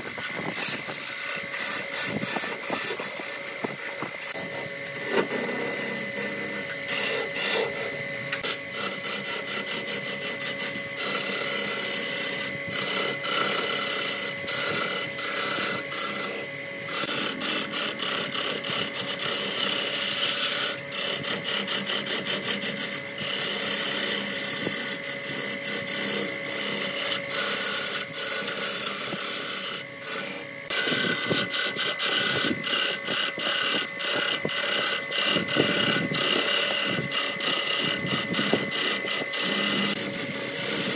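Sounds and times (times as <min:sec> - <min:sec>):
lathe motor hum: 0:00.0 - 0:40.9
lathe tool scraping wood: 0:00.0 - 0:40.9.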